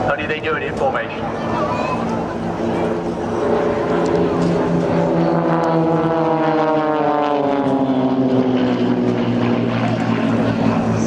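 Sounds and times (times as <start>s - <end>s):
propeller planes flying past: 0.0s - 11.0s.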